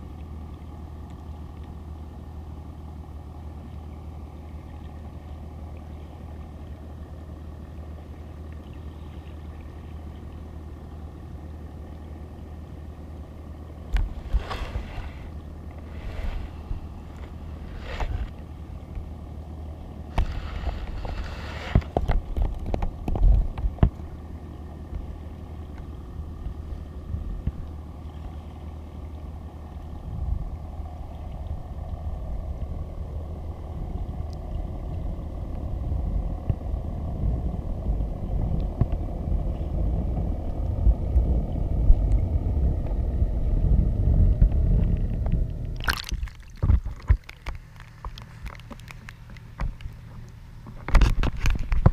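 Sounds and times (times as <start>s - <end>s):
muffled underwater rumble: 0.0s - 51.9s.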